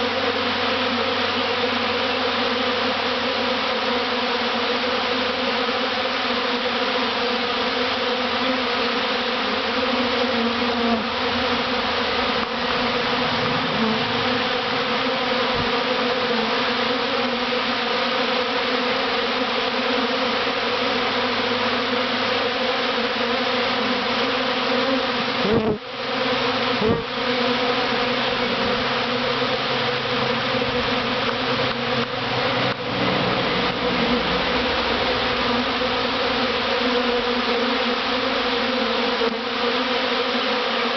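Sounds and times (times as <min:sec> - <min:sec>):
bee swarm buzzing: 0:00.0 - 0:40.9
bees bumping microphone: 0:00.0 - 0:40.9.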